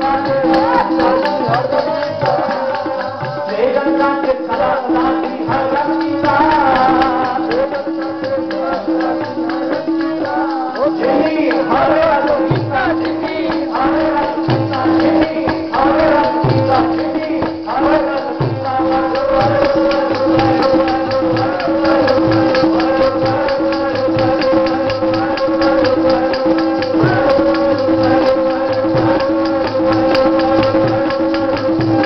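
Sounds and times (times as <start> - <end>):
hand drum strokes: 0.0 - 32.0
harmonium drone: 0.0 - 32.0
jingling percussion: 0.0 - 32.0
person singing: 0.0 - 32.0.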